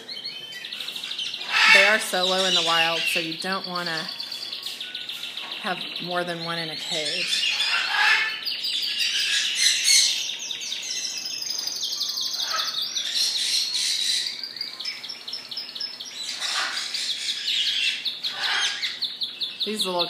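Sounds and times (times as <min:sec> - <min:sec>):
canaries singing trills: 0:00.0 - 0:20.0.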